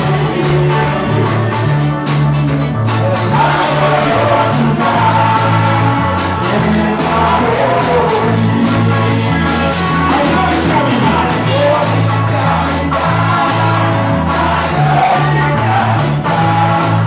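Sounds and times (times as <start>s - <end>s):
drum beat: 0.0s - 17.0s
voices singing: 0.0s - 17.0s
worship band playing: 0.0s - 17.0s.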